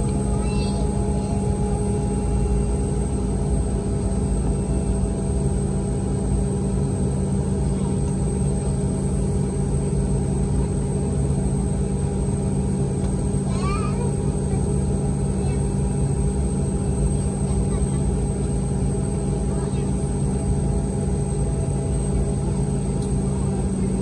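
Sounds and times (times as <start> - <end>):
airplane cabin drone: 0.0 - 24.0.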